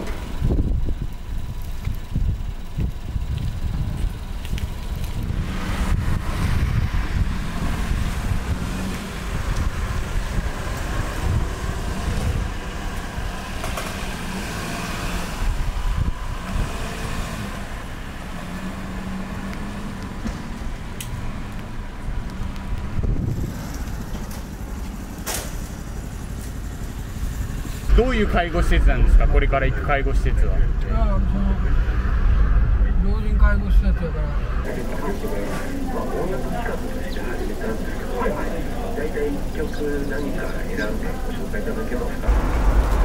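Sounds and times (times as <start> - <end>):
street traffic hiss: 0.0 - 31.2, 34.6 - 43.0
engine and road noise rumble: 0.0 - 43.0.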